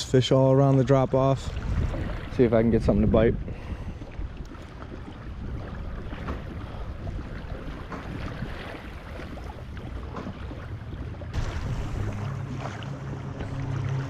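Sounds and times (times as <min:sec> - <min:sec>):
water lapping against kayak hull: 0:00.0 - 0:14.0
wind buffeting microphone: 0:01.3 - 0:13.9.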